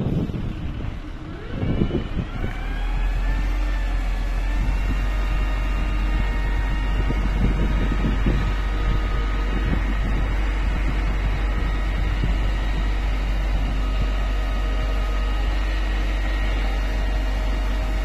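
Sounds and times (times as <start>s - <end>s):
heavy low rumble: 0.0s - 18.0s
motor whine: 0.0s - 18.0s.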